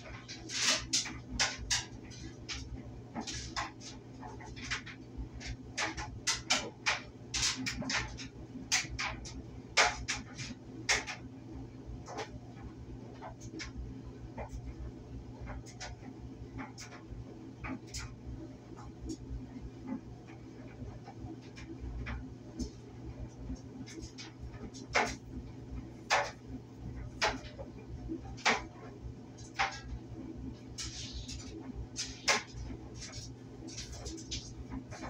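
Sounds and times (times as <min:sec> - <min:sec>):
clothes dryer hum: 0:00.0 - 0:35.0.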